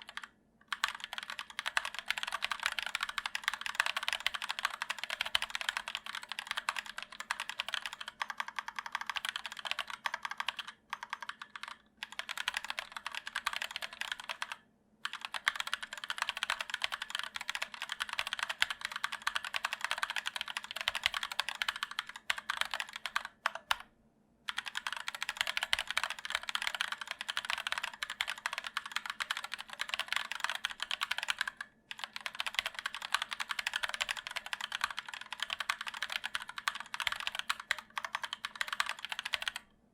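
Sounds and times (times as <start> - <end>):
fast keyboard typing: 0.0 - 23.8, 24.5 - 39.7.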